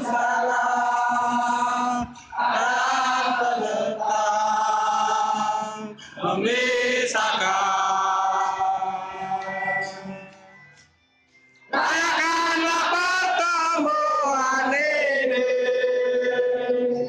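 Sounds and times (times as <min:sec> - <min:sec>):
crowd singing a chant: 0:00.0 - 0:10.6, 0:11.7 - 0:17.0.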